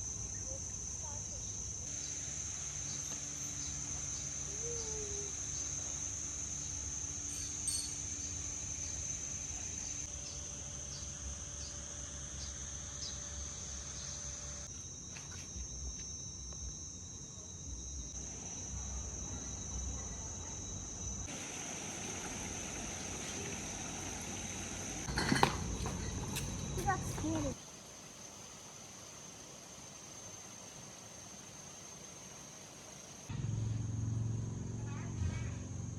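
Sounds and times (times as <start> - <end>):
insects droning: 0.0 - 35.9.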